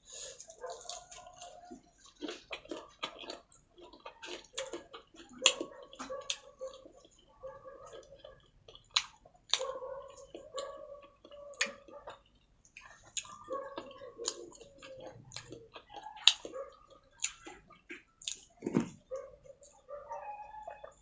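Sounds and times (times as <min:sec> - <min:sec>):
close-miked chewing: 0:00.0 - 0:21.0.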